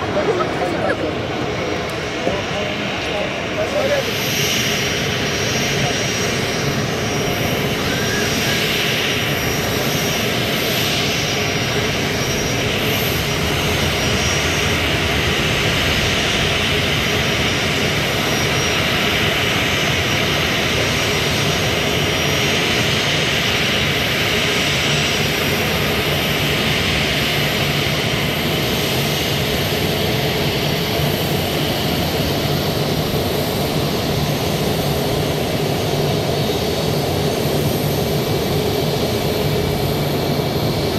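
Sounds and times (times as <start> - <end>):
jet engines running steadily: 0.0 - 40.9.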